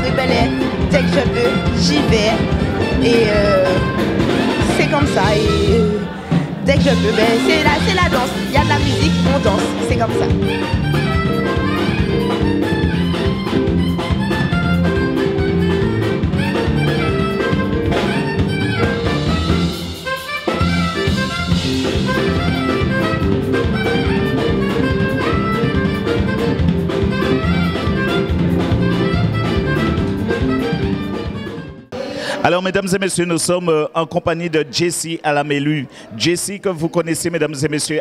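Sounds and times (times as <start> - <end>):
saxophone: 0.0 - 32.4
live band dance music: 0.0 - 33.2.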